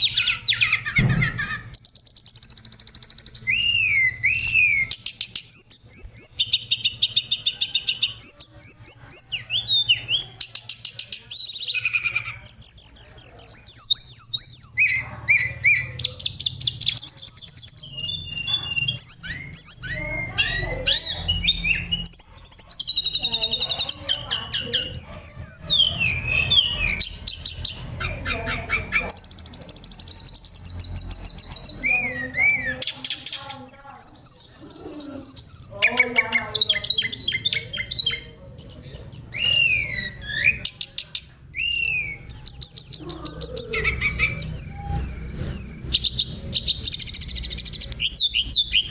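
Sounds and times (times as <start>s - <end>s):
songbird singing whistles and trills: 0.0s - 48.9s.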